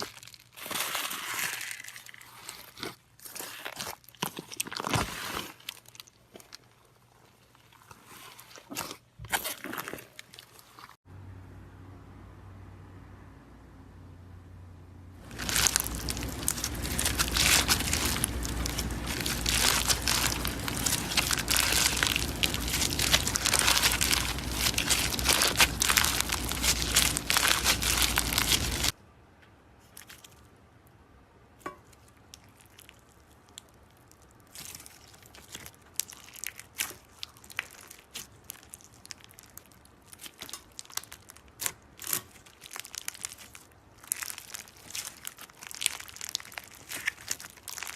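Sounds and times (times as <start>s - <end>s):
slime crackling and crinkling: 0.0s - 11.0s, 15.2s - 29.0s, 32.0s - 47.9s.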